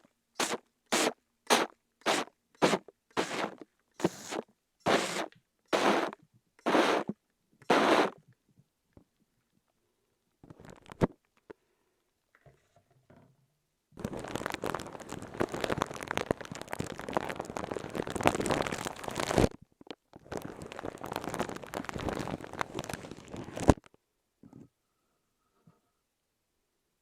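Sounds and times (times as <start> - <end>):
close-up crinkling and crackling: 0.0 - 11.6, 14.0 - 24.7.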